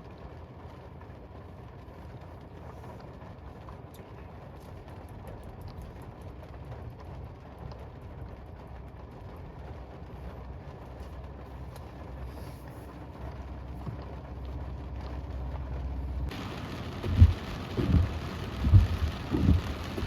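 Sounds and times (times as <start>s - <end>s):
hissing rain: 0.0s - 20.0s
car low rumble: 0.1s - 20.0s.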